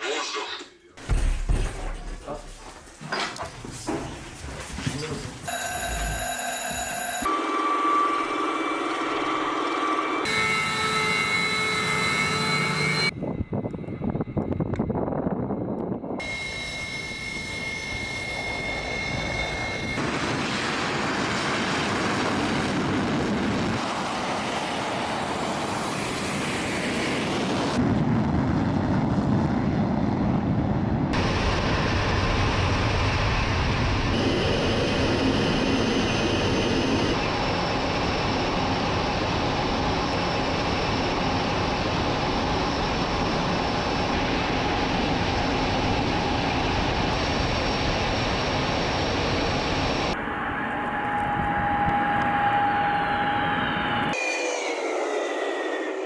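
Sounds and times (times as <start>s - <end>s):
steady high whine: 5.4s - 28.2s, 31.2s - 56.0s
fighter jet engines: 7.3s - 56.0s.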